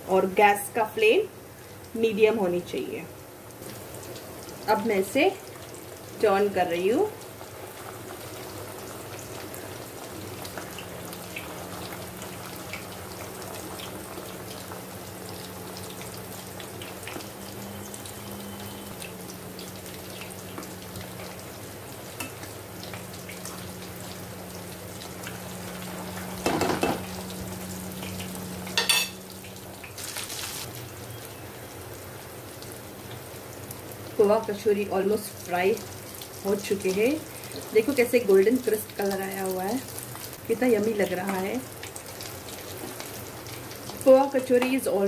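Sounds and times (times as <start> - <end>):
food deep-frying in hot oil: 0.0 - 45.0.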